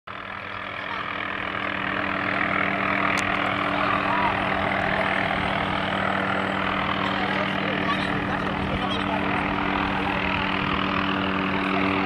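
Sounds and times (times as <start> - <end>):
helicopter rotor and engine hum: 0.1 - 12.0.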